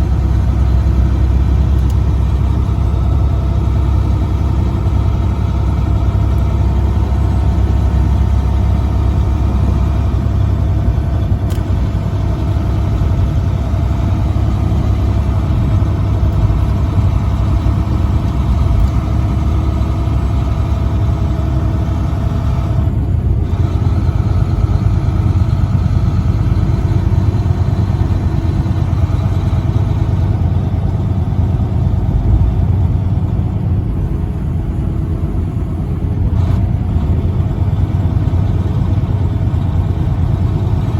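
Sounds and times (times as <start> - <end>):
road noise: 0.0 - 40.9
truck engine droning: 0.0 - 40.9.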